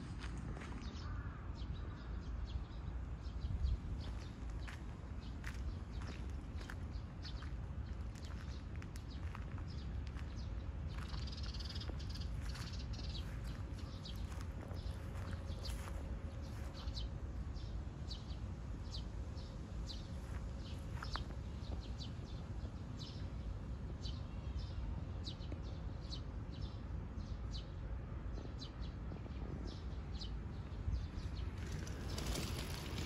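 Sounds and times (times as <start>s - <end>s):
small birds chirping: 0.1s - 33.0s.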